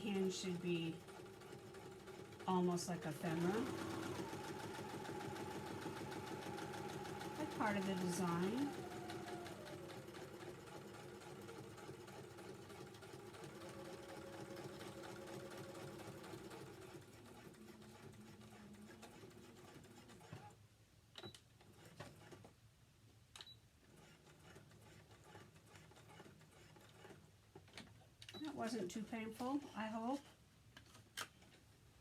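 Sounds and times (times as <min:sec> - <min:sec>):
sewing machine stitching: 0:00.0 - 0:20.6, 0:21.2 - 0:22.5, 0:23.8 - 0:29.6.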